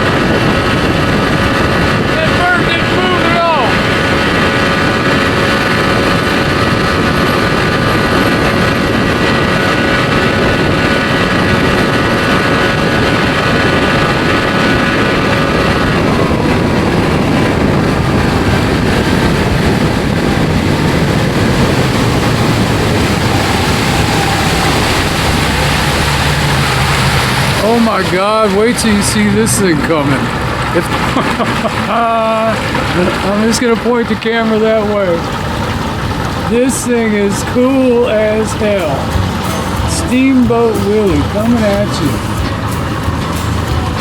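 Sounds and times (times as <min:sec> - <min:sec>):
outboard engine running: 0:00.0 - 0:44.0
rushing water noise: 0:00.0 - 0:44.0.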